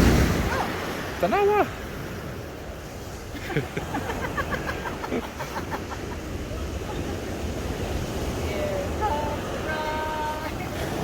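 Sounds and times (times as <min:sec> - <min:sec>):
ocean surf washing on beach: 0:00.0 - 0:11.0
wind rumbling on microphone: 0:00.0 - 0:11.0.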